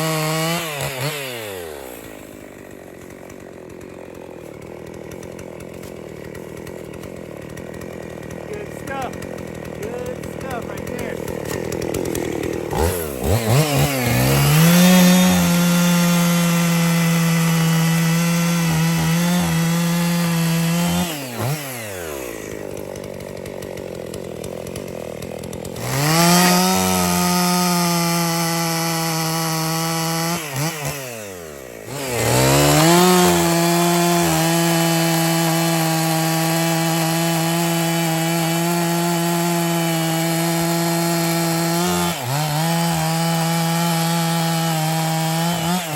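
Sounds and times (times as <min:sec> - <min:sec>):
chainsaw revving and cutting: 0:00.0 - 0:45.9.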